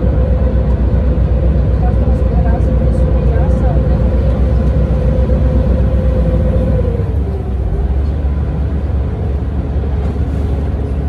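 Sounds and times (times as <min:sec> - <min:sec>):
motorboat engine rumbling: 0:00.0 - 0:11.0
water rushing and churning: 0:00.0 - 0:11.0.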